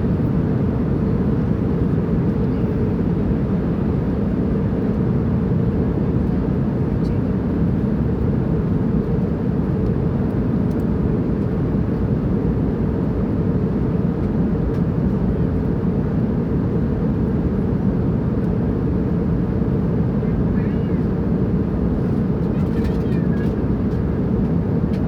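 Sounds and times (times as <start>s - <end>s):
airplane engine drone: 0.0s - 25.0s.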